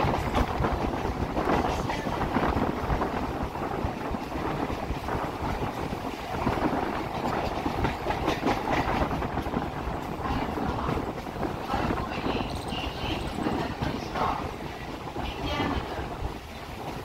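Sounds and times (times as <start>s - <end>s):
electric train rumbling: 0.0s - 17.0s
wheels clicking on rails: 0.0s - 17.0s.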